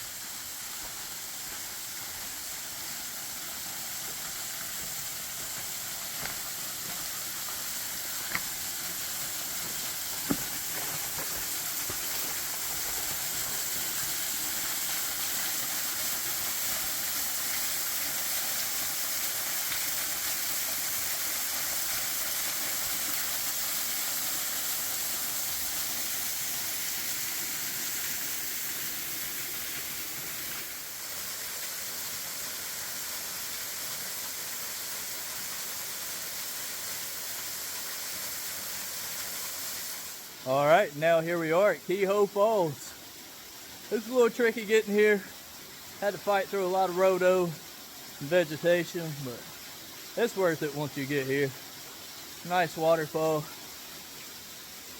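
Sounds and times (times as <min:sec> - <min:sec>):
creek water rushing: 0:00.0 - 0:54.9.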